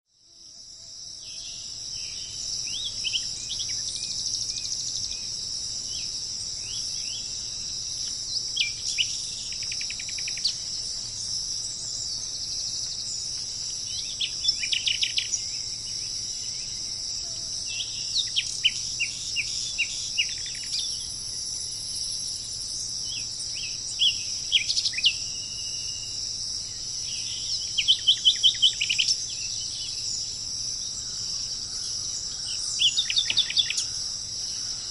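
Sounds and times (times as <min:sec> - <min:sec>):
high-pitched insect drone: 0:00.1 - 0:34.9
small birds chirping: 0:01.2 - 0:34.9.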